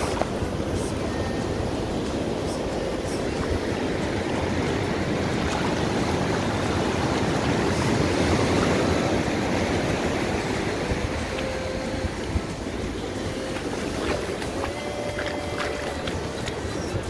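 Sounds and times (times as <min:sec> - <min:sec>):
surf washing up beach: 0:00.0 - 0:17.0
wind on microphone: 0:00.0 - 0:17.0.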